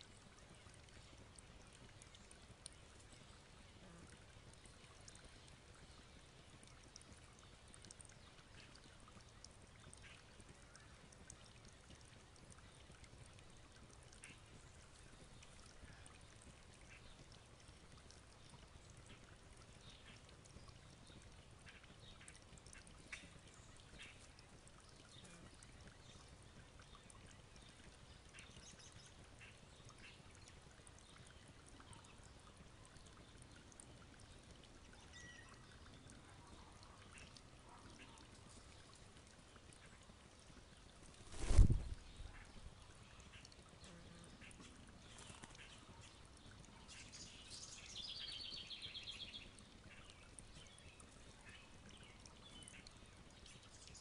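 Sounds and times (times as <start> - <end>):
faint high ticks and chirps: 0.0 - 54.0.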